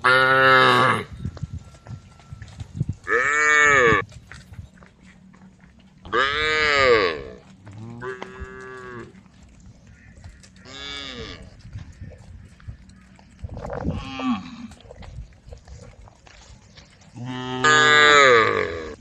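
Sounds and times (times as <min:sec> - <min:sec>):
cows mooing: 0:00.0 - 0:04.1, 0:05.3 - 0:15.1, 0:17.0 - 0:19.0.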